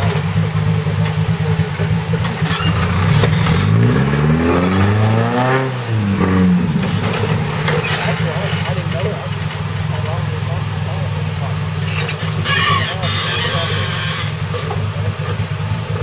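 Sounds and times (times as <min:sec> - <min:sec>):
buggy engine idling and revving: 0:00.0 - 0:16.0.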